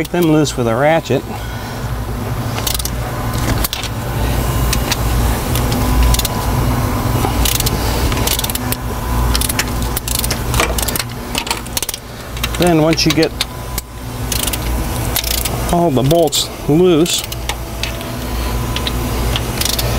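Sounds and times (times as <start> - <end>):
steady low hum: 0.0 - 19.9
ratchet clicking: 2.6 - 6.6, 7.2 - 16.4, 17.0 - 19.9.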